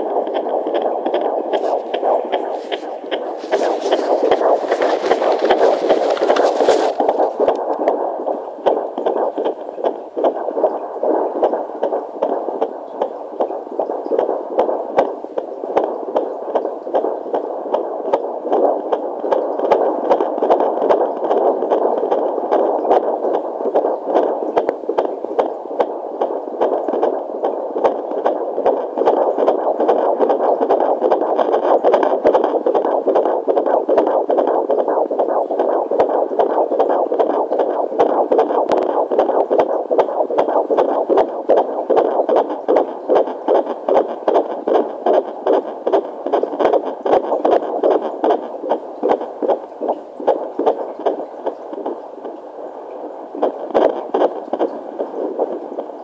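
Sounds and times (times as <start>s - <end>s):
fetal heartbeat pulsing: 0.0s - 56.0s.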